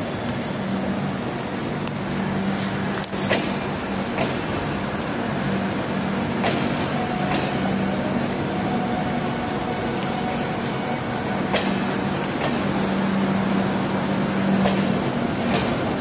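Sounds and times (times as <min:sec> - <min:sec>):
train coaches rumbling past: 0:00.0 - 0:16.0.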